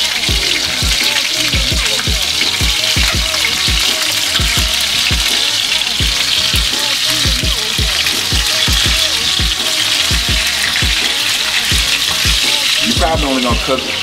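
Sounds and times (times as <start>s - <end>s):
chicken frying in oil: 0.0s - 14.0s.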